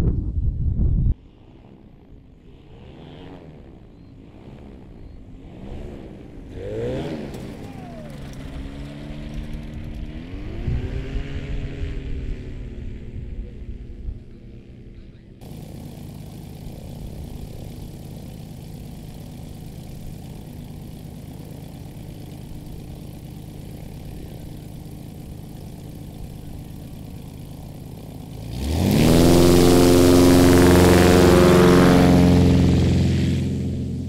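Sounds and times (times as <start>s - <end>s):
light aircraft engine: 0.0s - 34.0s.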